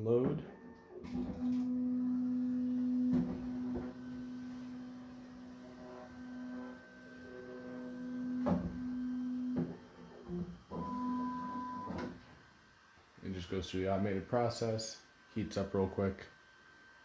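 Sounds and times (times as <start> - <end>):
printer motor hum and whine: 0.0 - 17.0.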